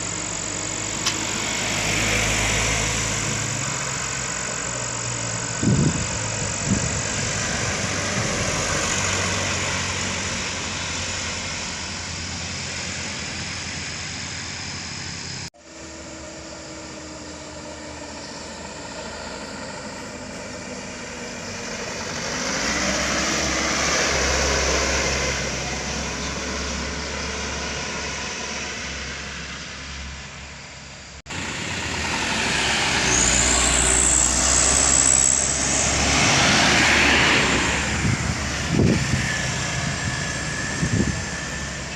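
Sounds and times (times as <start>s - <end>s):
truck engines passing: 0.0s - 41.9s.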